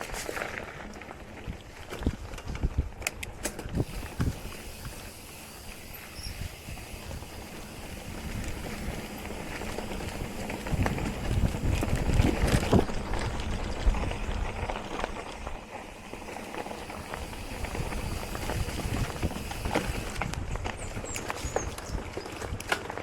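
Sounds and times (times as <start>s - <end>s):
bike knocking and rattling: 0.0s - 23.0s
bike tyres on dirt trail: 0.0s - 23.0s.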